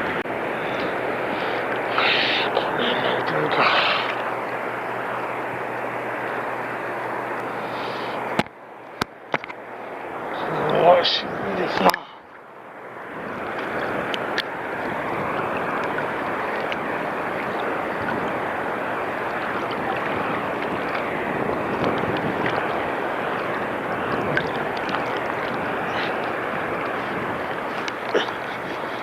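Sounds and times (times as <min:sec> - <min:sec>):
sea water rushing: 0:00.0 - 0:29.0.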